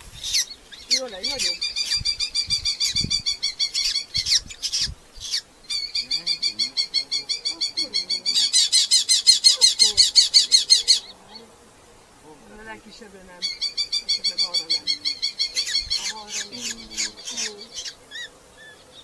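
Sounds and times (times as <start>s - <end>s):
falcon chattering calls: 0.2s - 11.2s, 13.4s - 18.3s.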